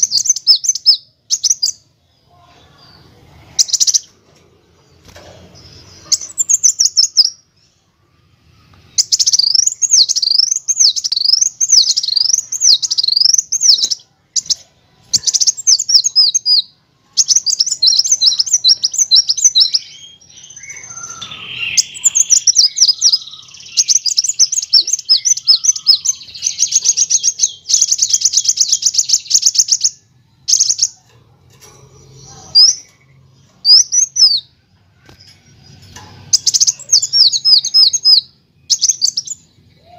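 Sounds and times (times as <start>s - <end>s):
sunbird singing: 0.0s - 4.1s, 5.6s - 31.2s, 32.0s - 34.6s, 35.2s - 39.9s.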